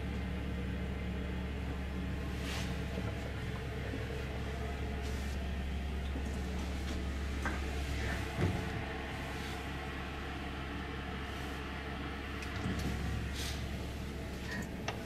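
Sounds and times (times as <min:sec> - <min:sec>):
train cabin hum and rumble: 0:00.0 - 0:15.0.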